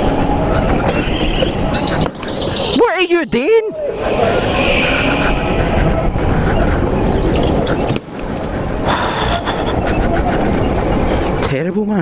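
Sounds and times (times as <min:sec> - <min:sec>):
electric go-kart running: 0:00.0 - 0:12.0.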